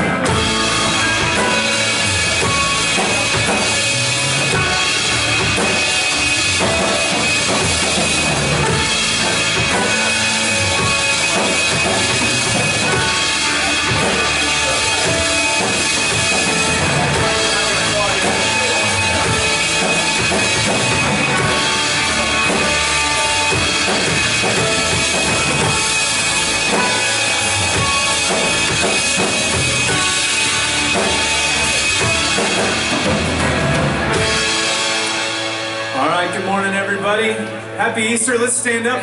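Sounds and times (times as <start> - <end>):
band music with drum kit: 0.0 - 39.0.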